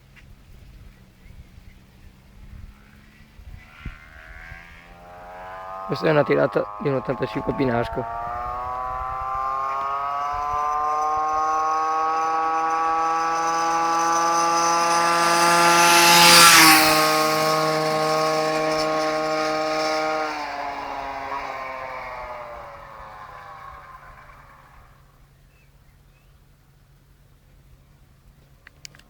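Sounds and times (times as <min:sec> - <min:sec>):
two-stroke moped engine at full throttle: 0:00.5 - 0:25.3.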